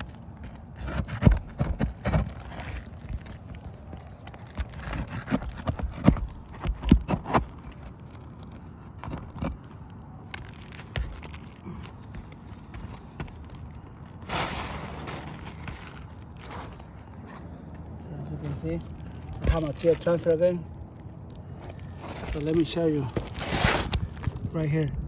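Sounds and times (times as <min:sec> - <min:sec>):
knocks and scrapes on shingle roof: 0:00.0 - 0:17.7, 0:18.4 - 0:20.6, 0:21.4 - 0:25.0.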